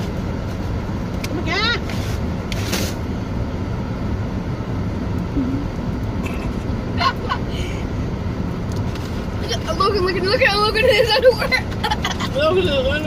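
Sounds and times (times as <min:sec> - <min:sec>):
car engine running inside cabin: 0:00.0 - 0:13.0.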